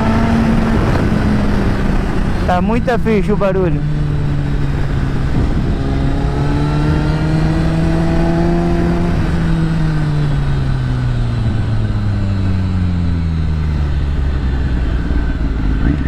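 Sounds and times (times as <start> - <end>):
motorcycle engine riding along: 0.0 - 16.0.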